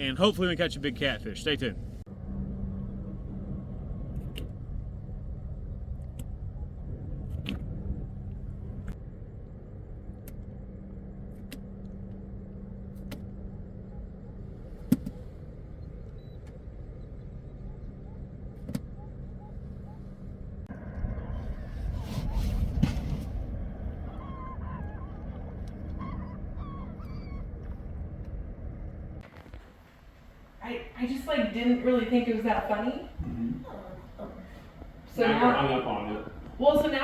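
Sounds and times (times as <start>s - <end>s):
faint hum: 0.0s - 37.0s
vehicle road rumble: 0.0s - 37.0s.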